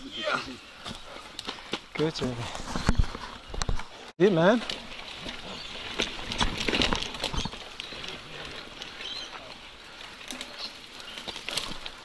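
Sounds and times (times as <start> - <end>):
bike tyres crunching on dirt: 0.0 - 12.0
bike clicks and rattles: 0.8 - 12.0.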